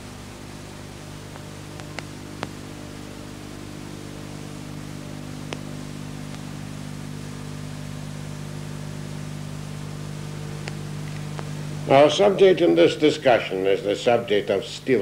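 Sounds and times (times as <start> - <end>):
low electrical hum: 0.0 - 15.0
videotape hiss: 0.0 - 15.0.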